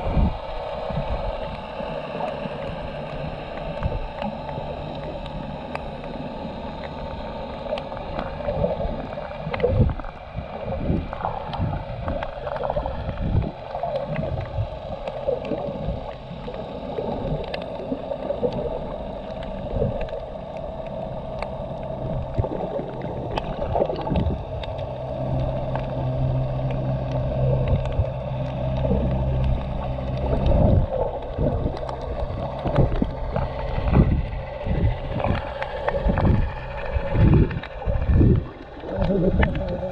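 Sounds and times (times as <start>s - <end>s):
low steady hum: 0.0s - 39.9s
underwater sloshing and gurgling: 0.0s - 39.9s.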